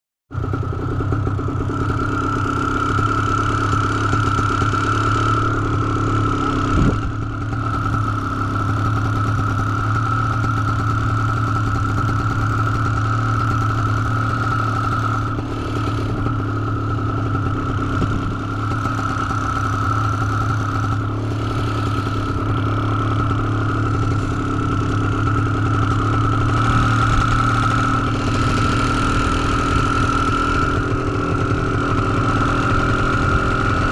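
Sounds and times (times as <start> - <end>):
paramotor engine idling: 0.4 - 33.9.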